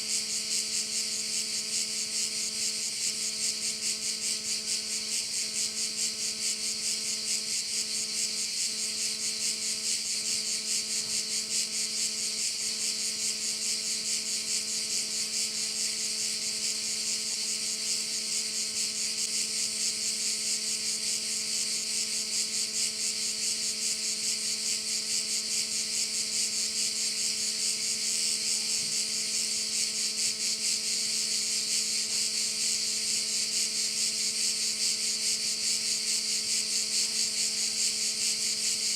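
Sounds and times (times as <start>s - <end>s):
crickets chirring: 0.0s - 38.9s.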